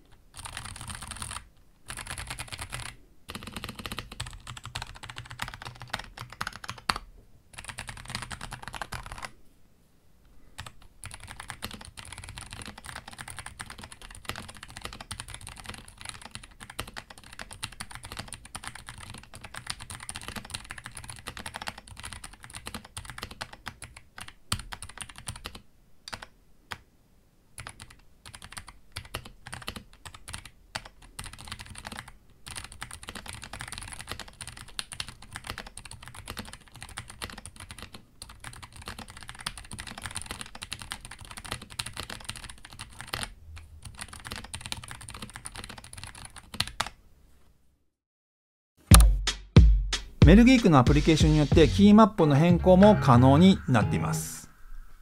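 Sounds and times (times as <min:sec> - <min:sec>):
mechanical keyboard typing: 0:00.1 - 0:09.3, 0:10.6 - 0:26.8, 0:27.6 - 0:47.0.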